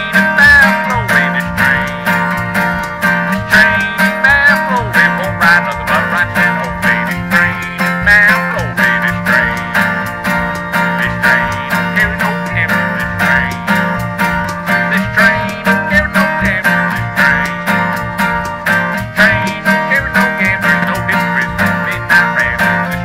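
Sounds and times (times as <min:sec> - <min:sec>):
acoustic guitar strumming: 0:00.0 - 0:23.0
high wavering harmonica: 0:00.0 - 0:23.0
washboard scraping rhythm: 0:00.0 - 0:23.0.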